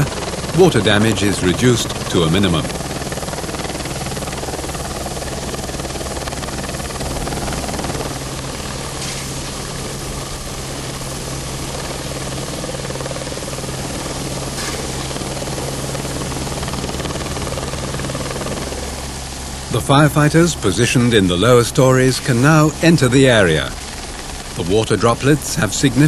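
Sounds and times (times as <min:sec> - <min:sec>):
helicopter hovering: 0:00.0 - 0:26.0.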